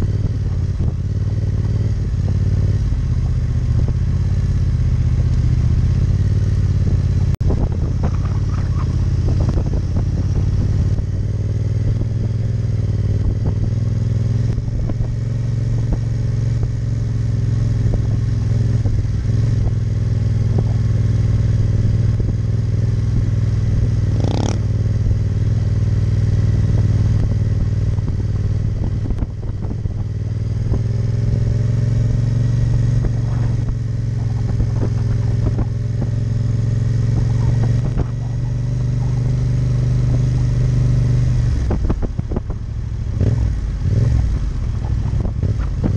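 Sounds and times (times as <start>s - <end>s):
motorcycle engine at low revs: 0.0s - 45.9s.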